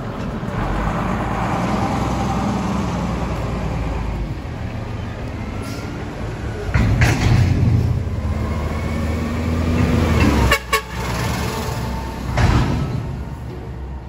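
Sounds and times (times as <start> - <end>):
garbage truck diesel engine rumble: 0.0 - 14.0.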